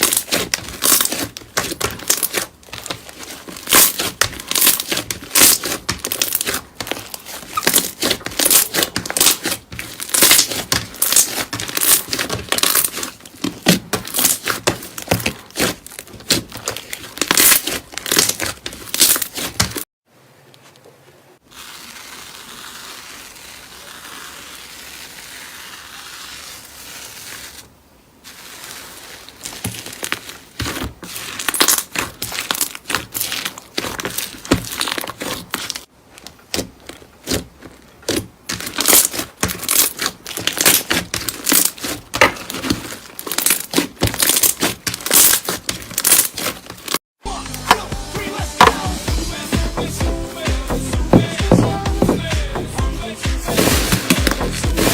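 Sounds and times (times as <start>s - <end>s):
slime squeezed by hand crackling: 0.0s - 19.8s, 21.4s - 35.9s, 36.5s - 47.0s.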